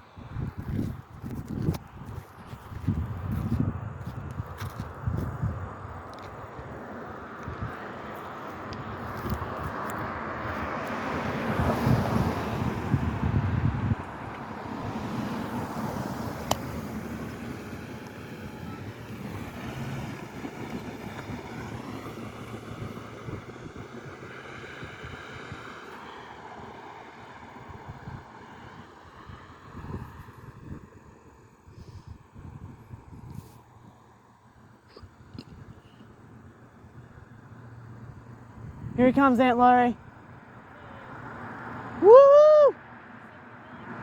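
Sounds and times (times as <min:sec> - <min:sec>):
wind noise: 0:00.0 - 0:26.8, 0:27.4 - 0:34.0, 0:38.0 - 0:39.9
road vehicle passing by: 0:00.0 - 0:35.2, 0:35.9 - 0:44.0.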